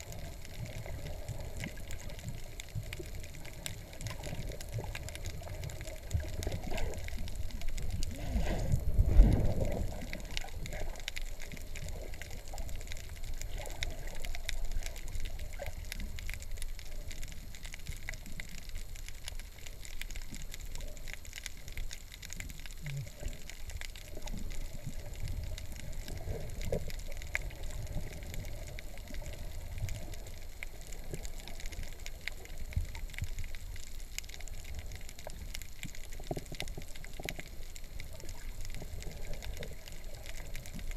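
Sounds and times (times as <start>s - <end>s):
faint underwater clicks: 0.0s - 40.9s
underwater rumble and sloshing: 0.0s - 40.9s.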